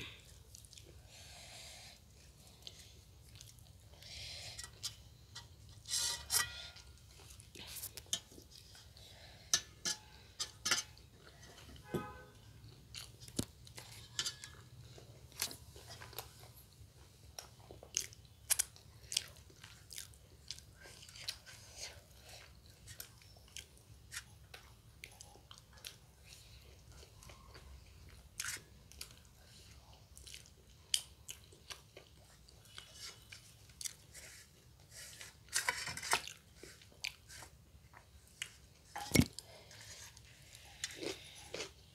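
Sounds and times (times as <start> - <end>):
people chewing and eating: 0.0 - 41.9.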